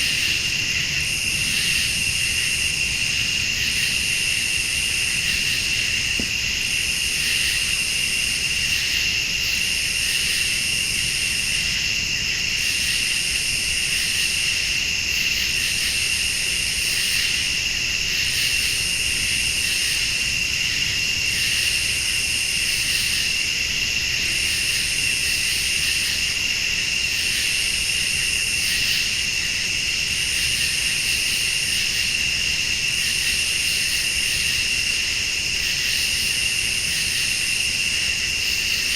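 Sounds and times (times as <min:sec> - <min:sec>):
crickets trilling: 0:00.0 - 0:38.9
high-pitched insect call: 0:00.0 - 0:38.9.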